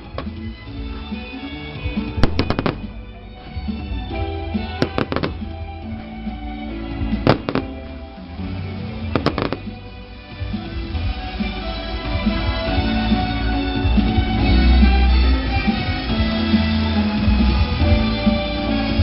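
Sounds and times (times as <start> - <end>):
firecrackers banging: 0.0 - 19.0
music playing: 0.0 - 19.0.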